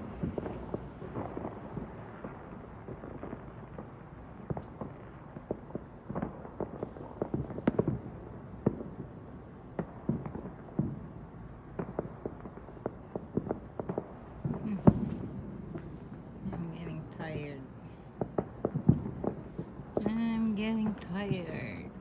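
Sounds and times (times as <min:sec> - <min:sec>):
distant fireworks popping and cracking: 0:00.0 - 0:22.0.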